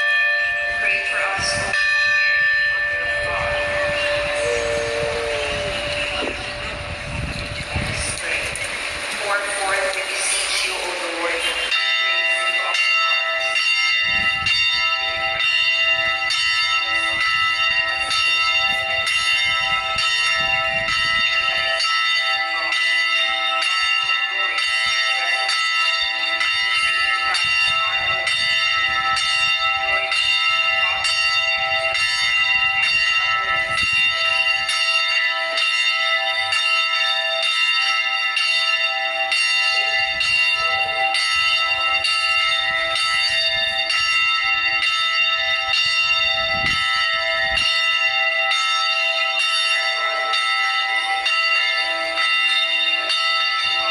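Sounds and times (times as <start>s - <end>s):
carillon bells ringing: 0.0s - 8.4s, 11.0s - 53.9s.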